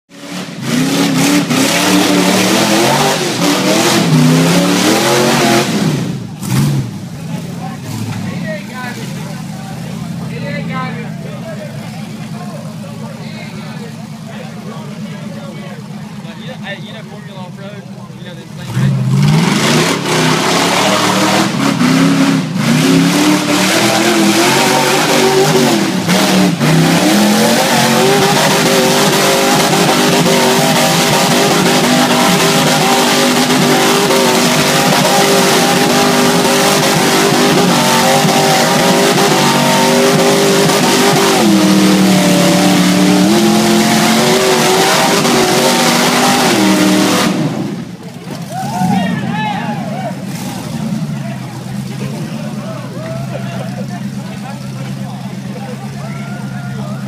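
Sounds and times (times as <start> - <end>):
buggy engine revving hard: 0.1 - 16.3, 18.4 - 57.0.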